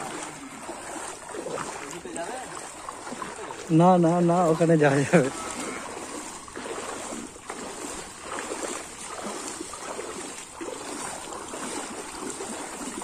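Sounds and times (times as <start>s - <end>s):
people wading through water: 0.0s - 13.0s.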